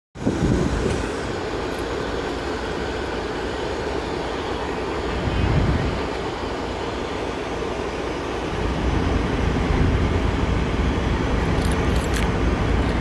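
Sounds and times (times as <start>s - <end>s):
diesel locomotives idling: 0.2s - 13.0s.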